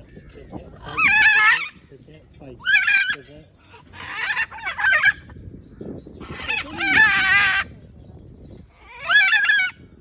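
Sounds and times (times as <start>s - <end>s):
exotic birds calling: 0.0s - 10.0s.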